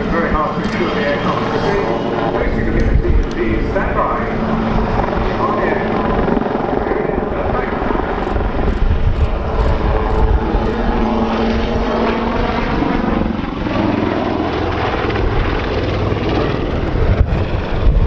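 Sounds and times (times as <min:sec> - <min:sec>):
helicopter rotor and engines: 0:00.0 - 0:18.0.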